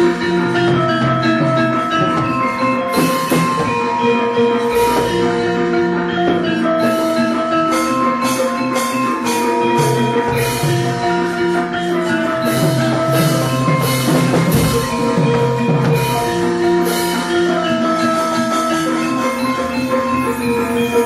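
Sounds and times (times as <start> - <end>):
gamelan ensemble playing: 0.0 - 21.0.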